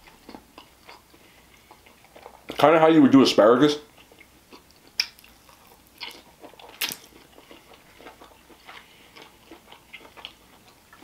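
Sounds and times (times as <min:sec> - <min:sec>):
biting and chewing green beans: 0:00.0 - 0:02.9, 0:03.8 - 0:11.0.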